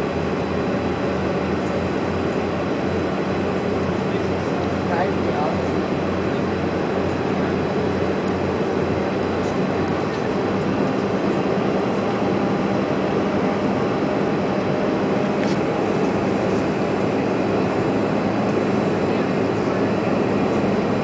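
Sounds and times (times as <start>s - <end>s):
constant low hum: 0.0s - 21.0s
jet engines in cabin: 0.0s - 21.0s.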